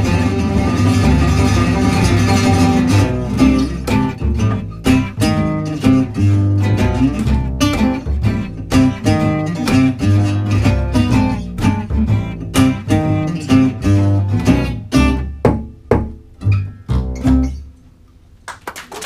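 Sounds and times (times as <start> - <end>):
plucked double bass: 0.0 - 18.2
acoustic guitars: 0.0 - 18.4.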